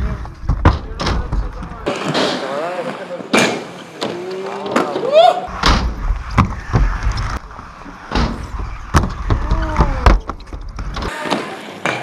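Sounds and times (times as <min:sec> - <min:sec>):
inline skates rolling on concrete: 0:01.3 - 0:12.0.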